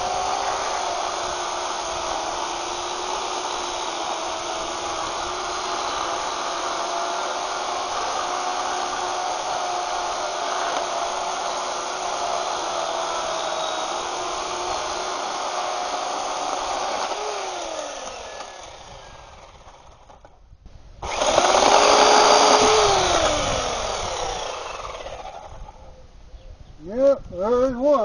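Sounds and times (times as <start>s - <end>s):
electric chainsaw cutting wood: 0.0s - 20.4s, 21.0s - 25.9s.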